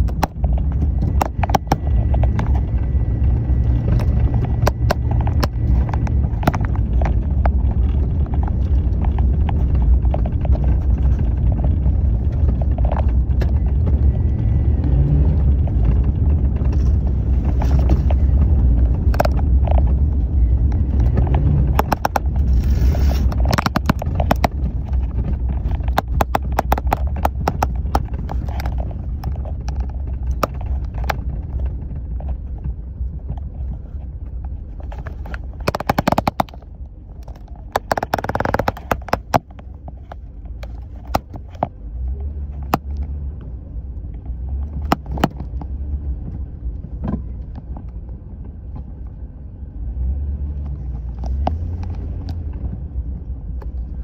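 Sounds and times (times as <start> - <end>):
gravel crackling under tyres: 0.0 - 54.0
vehicle rumble: 0.0 - 54.0.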